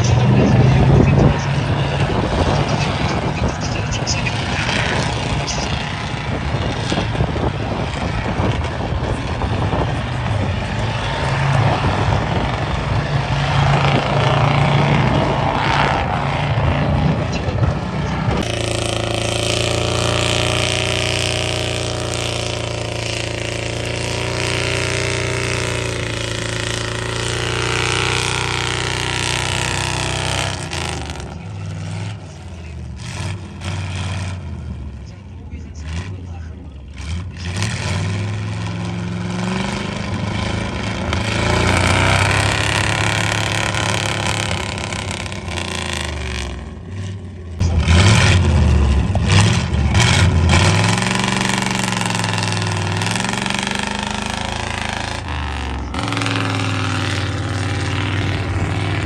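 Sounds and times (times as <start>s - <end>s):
truck engine revving under load: 0.0s - 59.0s
truck engine running steadily: 0.0s - 59.0s.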